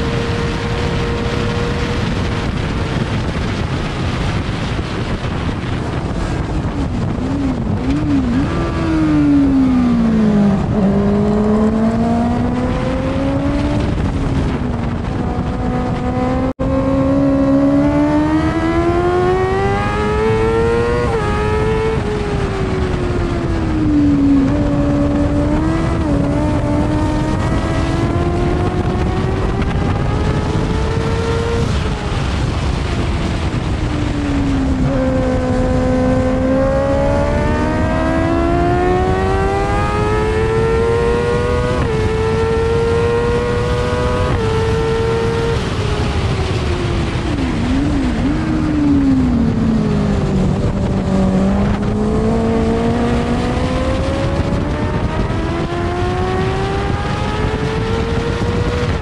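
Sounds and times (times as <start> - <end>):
racing engine accelerating: 0.0 - 59.0
wind rush on microphone: 0.0 - 59.0.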